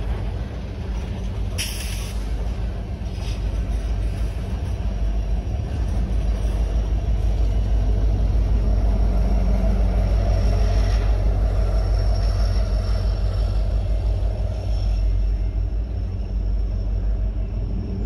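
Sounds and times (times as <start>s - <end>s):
diesel locomotives rumbling: 0.0s - 18.0s
train wheels on rails: 0.0s - 18.0s.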